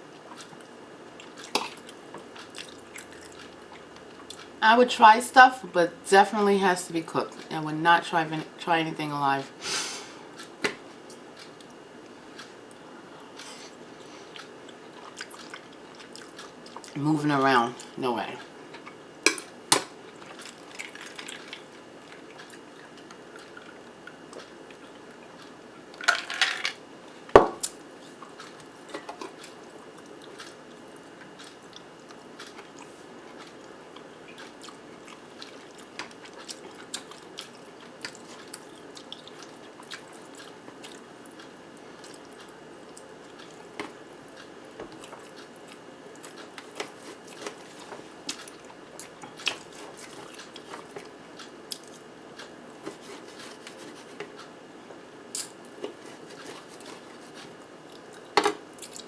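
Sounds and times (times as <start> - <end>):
close chewing: 0.1 - 4.6, 10.3 - 17.0, 20.1 - 25.6, 27.6 - 54.6, 55.4 - 59.0.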